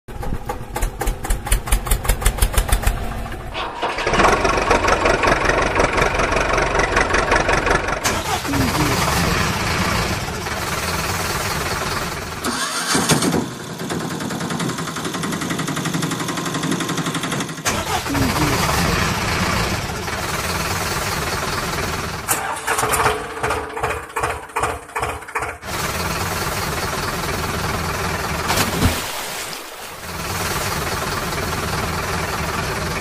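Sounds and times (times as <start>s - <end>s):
engine chugging: 0.1s - 28.6s, 30.0s - 33.0s
engines starting and running: 0.1s - 33.0s.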